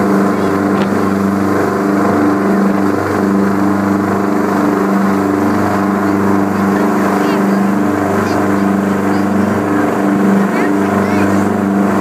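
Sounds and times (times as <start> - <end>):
boat engines droning: 0.0 - 12.0
churning wake water: 0.0 - 12.0.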